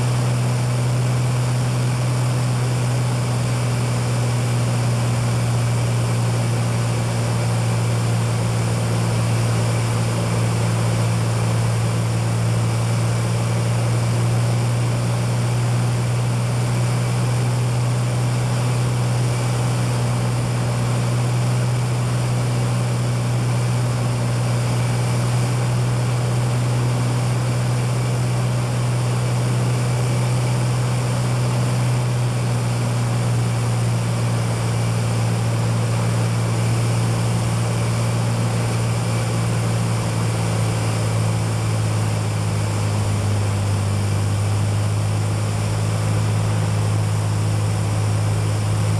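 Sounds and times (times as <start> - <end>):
propeller plane engine droning: 0.0 - 48.9.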